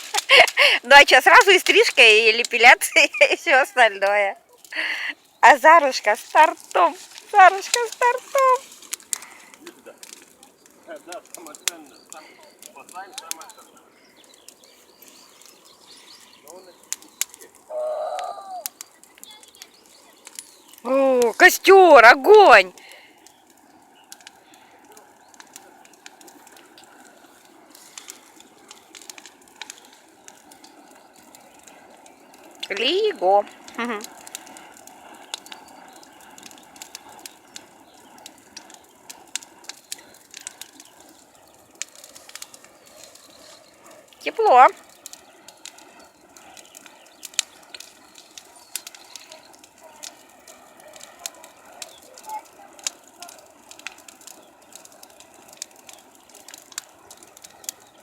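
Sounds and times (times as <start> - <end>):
bonfire crackling: 0.0 - 58.0.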